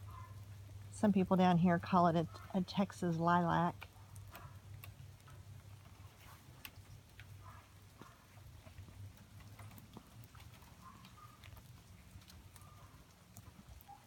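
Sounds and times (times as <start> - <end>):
low background hum: 0.0 - 14.0
rainwater dripping: 0.0 - 14.0.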